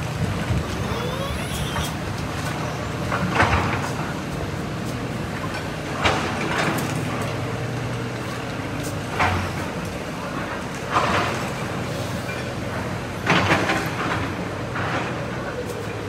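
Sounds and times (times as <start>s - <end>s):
diesel engines humming: 0.0s - 16.0s.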